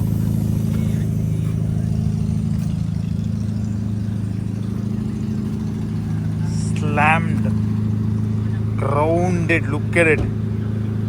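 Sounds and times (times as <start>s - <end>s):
car engine idling low: 0.0s - 11.0s.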